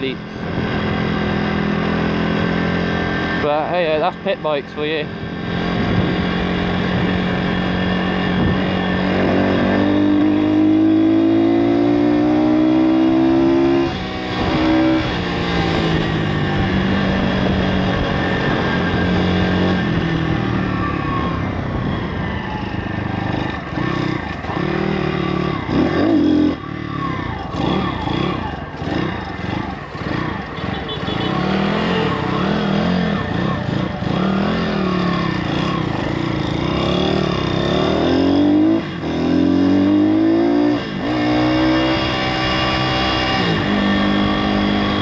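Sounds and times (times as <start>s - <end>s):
motorbike engine revving: 0.0s - 45.0s.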